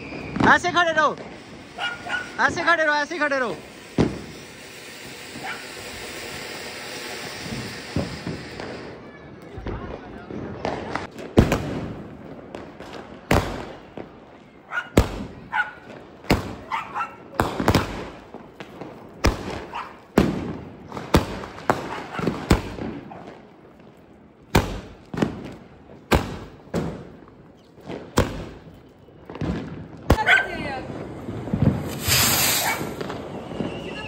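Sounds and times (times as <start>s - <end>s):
firecrackers bursting: 0.0s - 34.0s.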